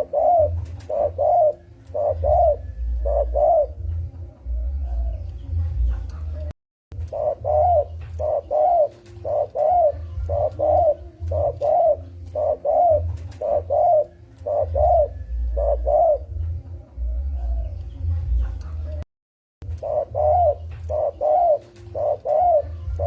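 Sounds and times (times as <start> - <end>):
dove cooing: 0.0 - 19.0, 19.6 - 23.0.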